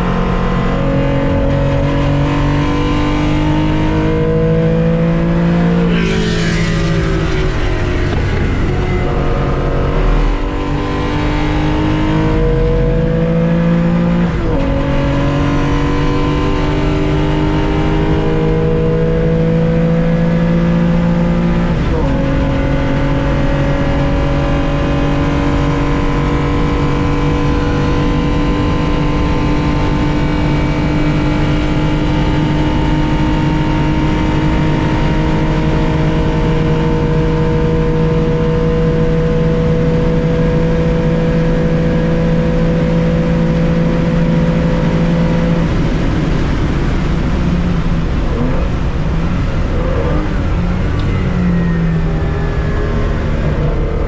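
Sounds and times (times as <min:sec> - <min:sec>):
car engine under racing load: 0:00.0 - 0:54.0.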